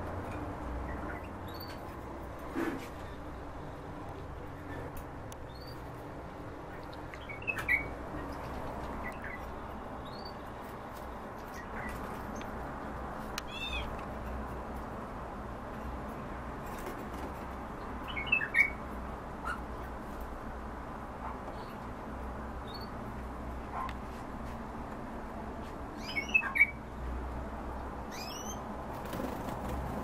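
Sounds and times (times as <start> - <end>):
songbirds chirping: 0.3 - 14.9, 17.4 - 20.2, 21.4 - 24.0, 24.9 - 29.8.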